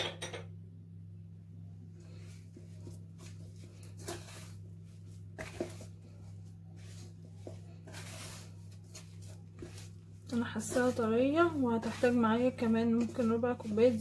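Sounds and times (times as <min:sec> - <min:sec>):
steady low hum: 0:00.4 - 0:14.0
dough squishing: 0:01.8 - 0:14.0.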